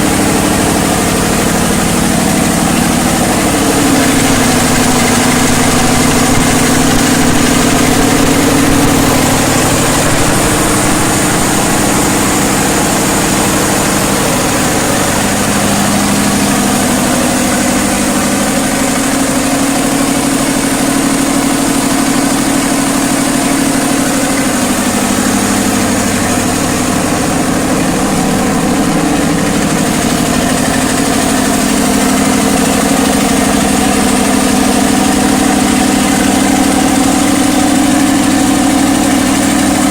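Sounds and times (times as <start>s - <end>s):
diesel generator droning: 0.0s - 39.9s.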